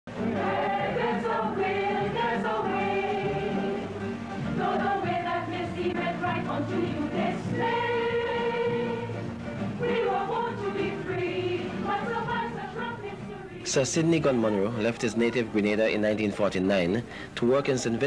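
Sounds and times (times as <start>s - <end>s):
choir singing held notes: 0.1s - 14.9s.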